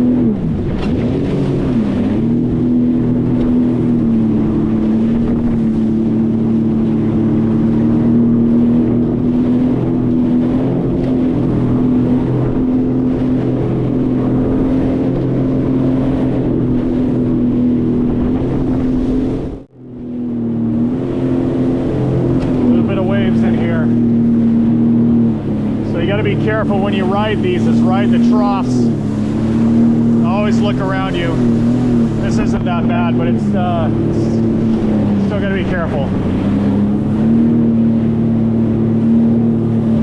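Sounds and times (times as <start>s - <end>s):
personal watercraft engine running: 0.0s - 40.0s.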